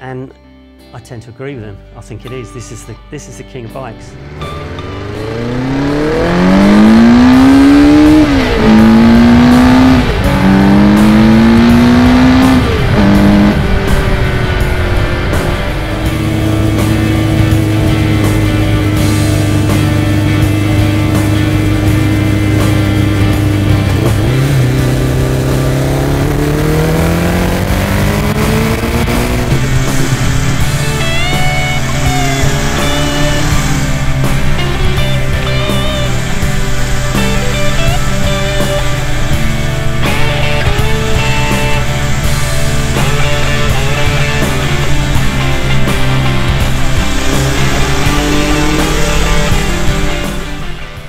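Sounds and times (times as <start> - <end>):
motorcycle engine accelerating: 4.2 - 51.0.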